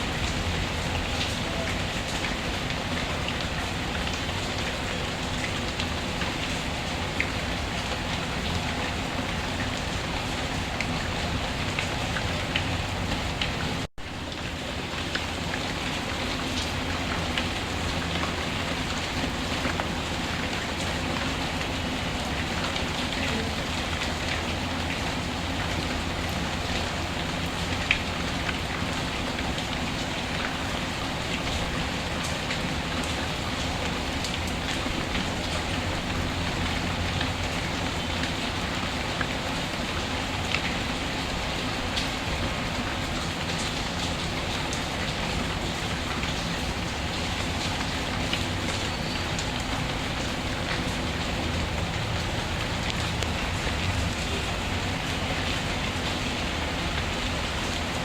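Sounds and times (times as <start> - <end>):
raindrop ticks: 0.0 - 58.0
steady rain falling: 0.0 - 58.0.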